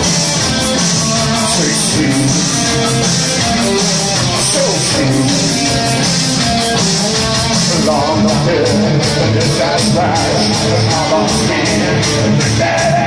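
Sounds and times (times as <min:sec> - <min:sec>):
electric guitar: 0:00.0 - 0:13.0
live rock band playing: 0:00.0 - 0:13.0
person singing: 0:00.0 - 0:13.0.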